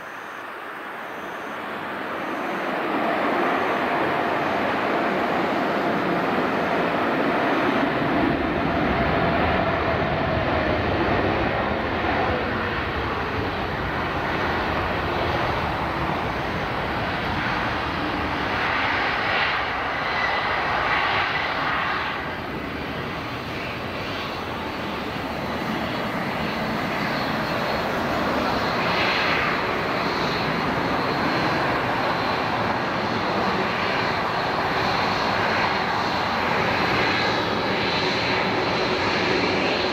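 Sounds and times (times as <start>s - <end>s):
jet airliner engines: 0.0s - 39.9s.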